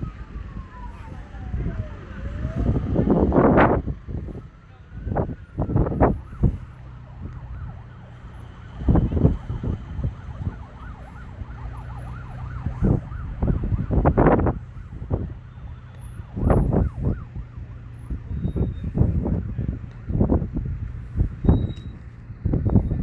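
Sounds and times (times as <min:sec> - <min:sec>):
distant siren yelping: 0:00.0 - 0:20.4
wind buffeting microphone: 0:00.0 - 0:23.0.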